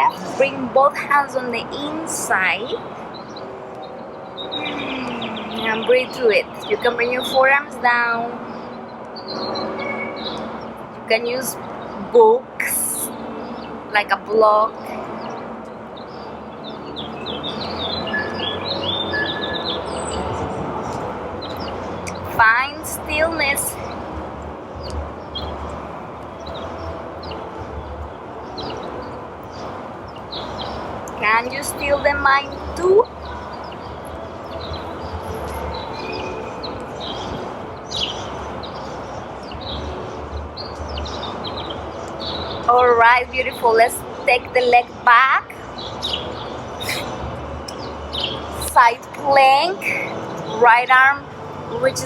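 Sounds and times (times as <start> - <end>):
small birds chirping: 1.4 - 24.1, 24.7 - 52.0.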